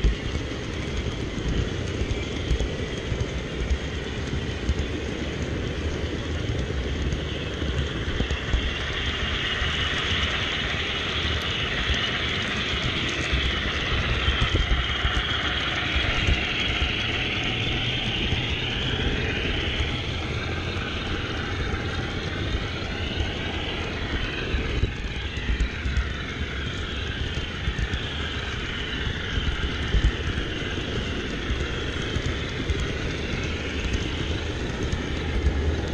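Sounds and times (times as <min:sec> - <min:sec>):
model train rumbling on track: 0:00.0 - 0:35.9.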